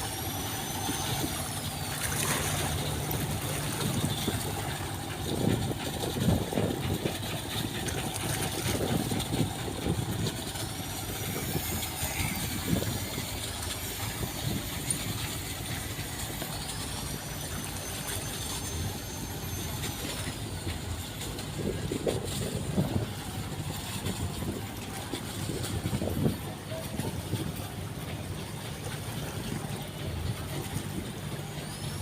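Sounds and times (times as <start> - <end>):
motor low rumble: 0.0 - 32.0.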